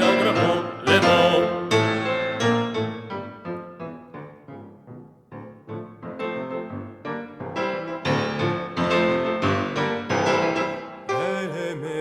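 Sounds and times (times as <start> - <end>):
piano notes: 0.0 - 12.0.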